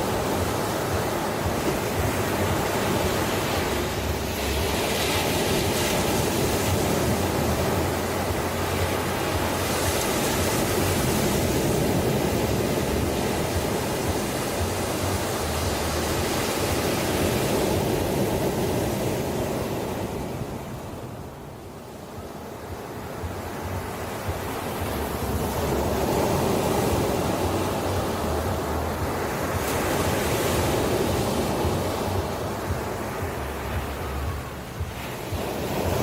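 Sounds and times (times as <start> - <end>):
ocean surf washing on shore: 0.0 - 36.0.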